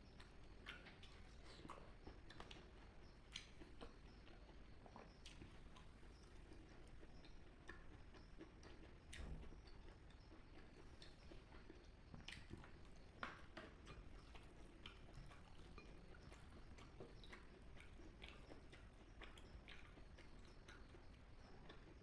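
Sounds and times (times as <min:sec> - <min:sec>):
wet chewing mouth clicks: 0:00.2 - 0:22.0.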